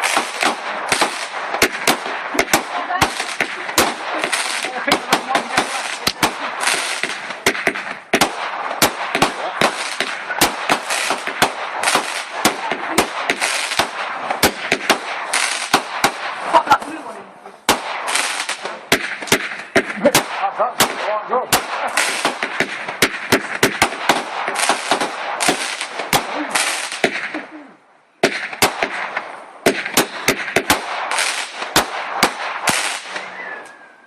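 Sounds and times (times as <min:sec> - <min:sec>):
fireworks hissing: 0:00.0 - 0:20.3, 0:21.7 - 0:27.6, 0:29.9 - 0:31.9, 0:32.6 - 0:33.4
fireworks banging: 0:00.0 - 0:33.8.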